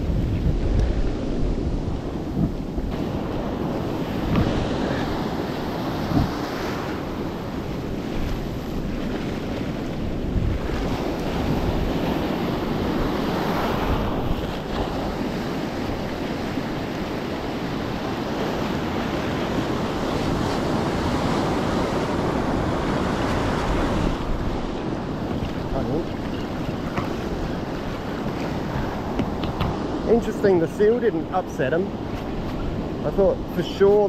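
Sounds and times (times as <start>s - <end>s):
ocean surf breaking: 0.0s - 34.0s
wind rumbling on microphone: 0.0s - 34.0s.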